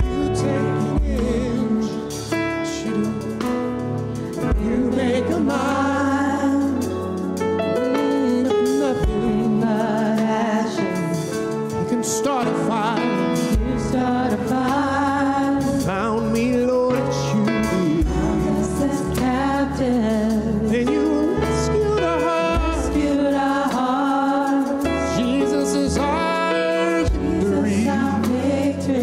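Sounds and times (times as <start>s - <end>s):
group singing gospel song: 0.0s - 29.0s
keyboard chords: 0.0s - 29.0s.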